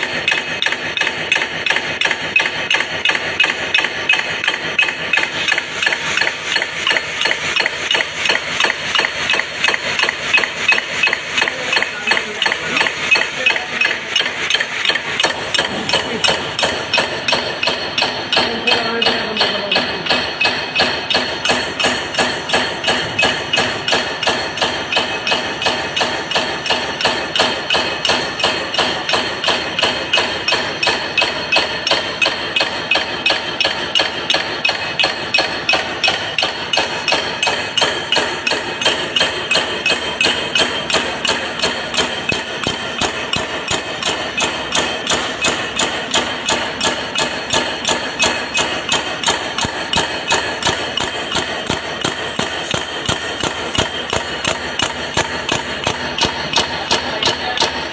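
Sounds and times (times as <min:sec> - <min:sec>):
rhythmic knocking: 0:00.0 - 0:57.9.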